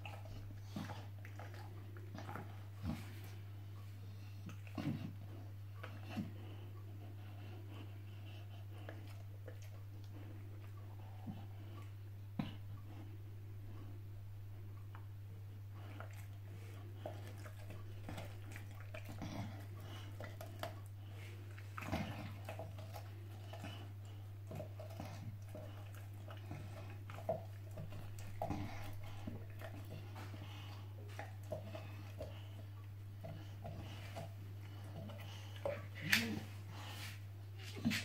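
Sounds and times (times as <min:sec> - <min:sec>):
puppy chewing carrot: 0:00.0 - 0:38.0
steady low hum: 0:00.0 - 0:38.0.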